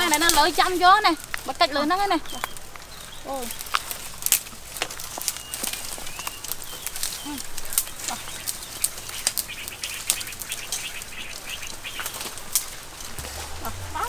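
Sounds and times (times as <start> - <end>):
branches rustling: 0.0 - 14.0
dry twigs snapping: 0.0 - 14.0.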